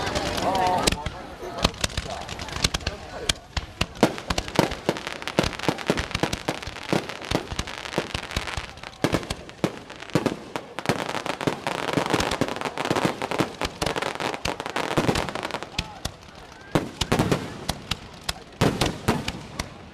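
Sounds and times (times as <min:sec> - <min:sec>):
fireworks bangs and pops: 0:00.0 - 0:19.9
fireworks crackling: 0:00.0 - 0:19.9.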